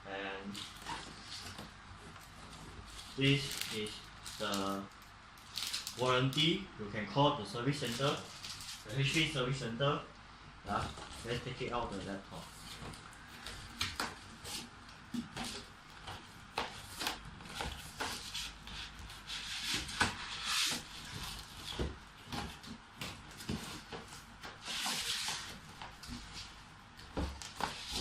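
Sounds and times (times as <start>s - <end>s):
crinkly rustling: 0.5s - 6.5s, 7.7s - 9.4s, 10.7s - 28.0s.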